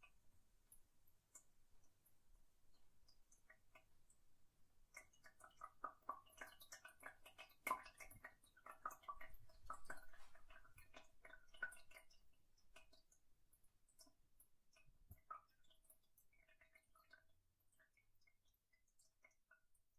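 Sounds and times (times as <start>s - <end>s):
water dripping in a toilet: 0.0s - 19.9s.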